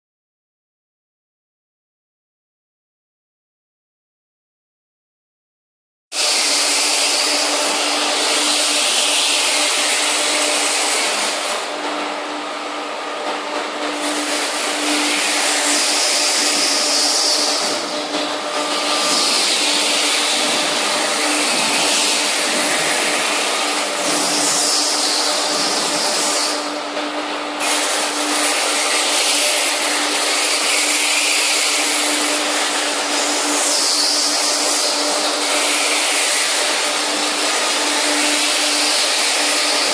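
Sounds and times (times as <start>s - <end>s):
machine hum: 6.2s - 39.9s.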